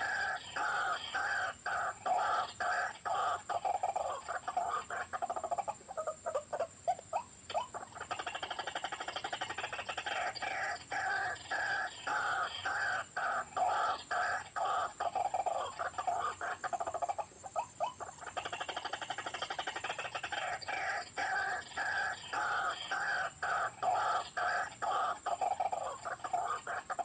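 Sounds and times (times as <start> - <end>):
waterhen calls from bird caller: 0.0 - 27.0.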